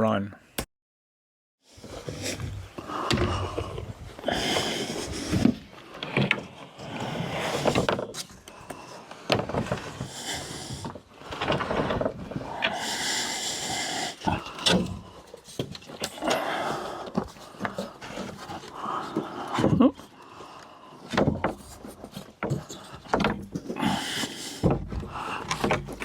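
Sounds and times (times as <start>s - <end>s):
wood scraping on wood: 1.7s - 26.0s.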